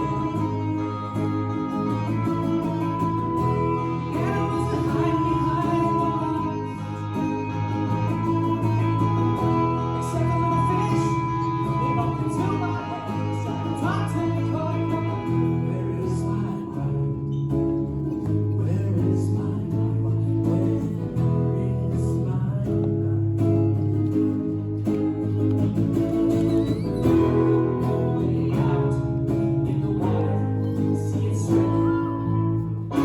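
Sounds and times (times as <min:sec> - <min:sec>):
live band with guitars: 0:00.0 - 0:33.0.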